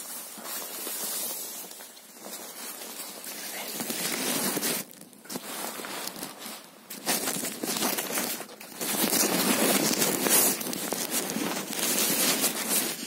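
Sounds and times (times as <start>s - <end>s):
plastic cape rustling: 0.0s - 13.0s.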